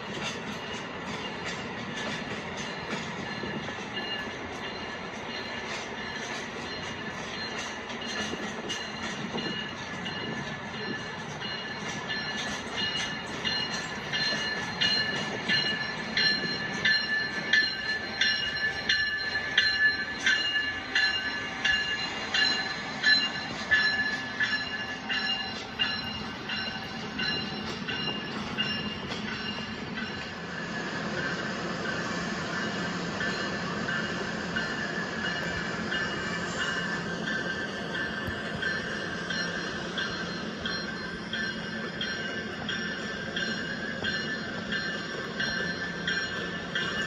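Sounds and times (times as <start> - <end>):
train wheels squealing: 0.0 - 47.0
wheels click-clack over rail joints: 0.0 - 47.0.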